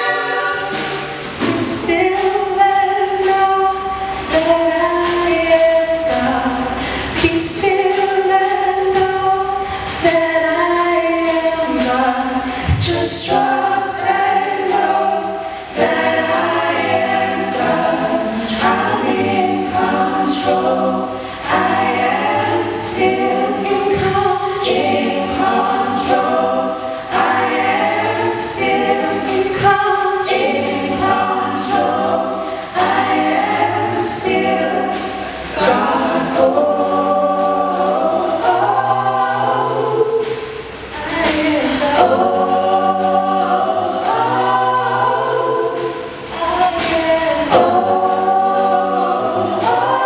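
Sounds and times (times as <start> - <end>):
choir singing slow song: 0.0 - 50.0.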